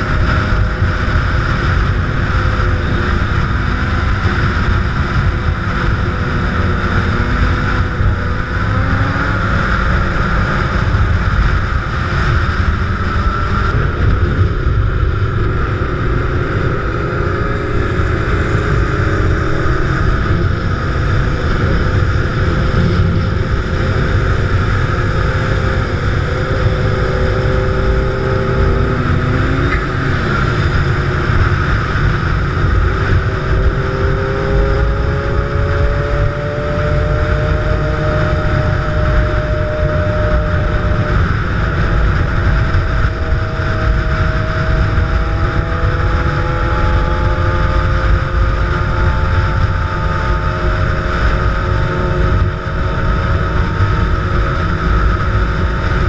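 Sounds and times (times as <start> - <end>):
motorcycle engines: 0.0 - 56.0
wind noise on microphone: 0.0 - 56.0.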